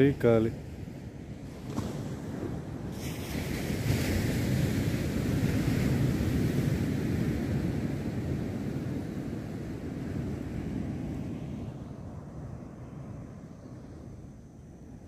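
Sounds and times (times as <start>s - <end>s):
sea waves breaking: 0.0s - 13.3s
wind buffeting microphone: 0.0s - 15.0s.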